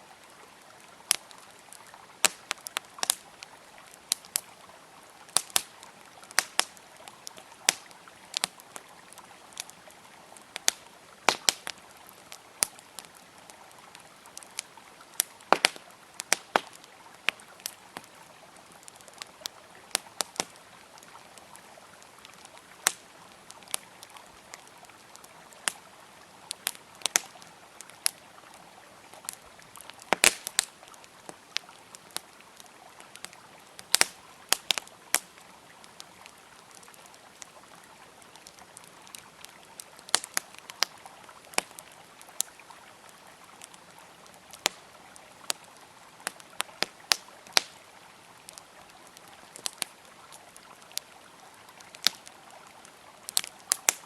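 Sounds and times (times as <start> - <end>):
campfire wood crackling: 0.0 - 54.0
river flowing: 0.0 - 54.0.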